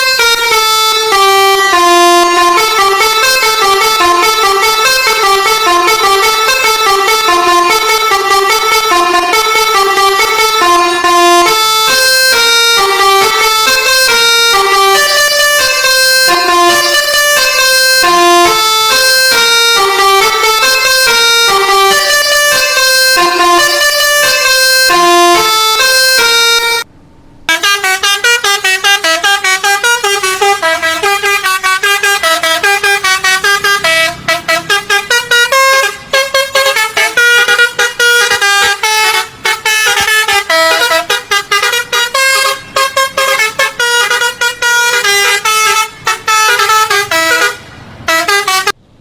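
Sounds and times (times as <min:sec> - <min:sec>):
multi-tone bus horn playing tune: 0:00.0 - 0:26.9, 0:27.5 - 0:48.9.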